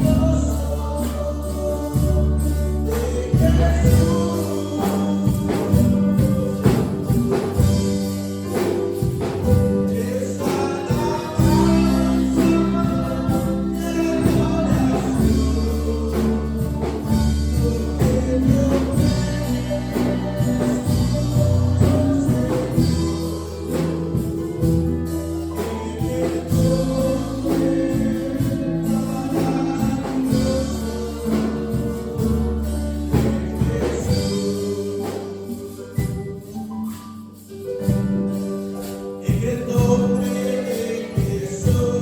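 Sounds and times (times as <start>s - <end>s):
people singing worship song: 0.0s - 36.6s, 37.8s - 42.0s
band with bass and percussion: 0.0s - 42.0s.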